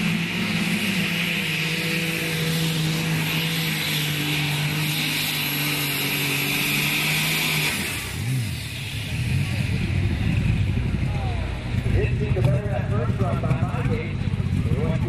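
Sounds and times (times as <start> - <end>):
tractor engine droning under load: 0.0 - 15.0.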